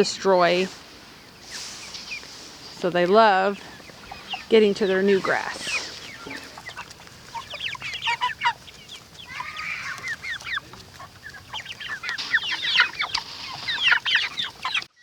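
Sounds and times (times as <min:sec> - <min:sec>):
chickens peeping and clucking: 0:00.0 - 0:15.0.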